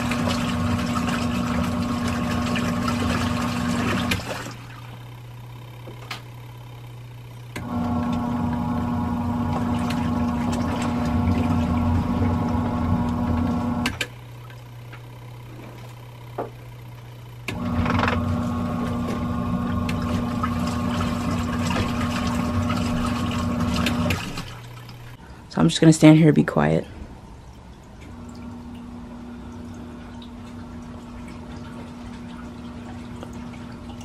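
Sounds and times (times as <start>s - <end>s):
washing machine motor hum: 0.0s - 26.4s, 27.0s - 34.0s.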